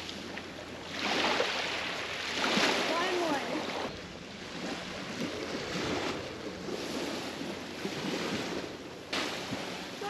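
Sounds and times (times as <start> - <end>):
small waves washing on shore: 0.0 - 10.0.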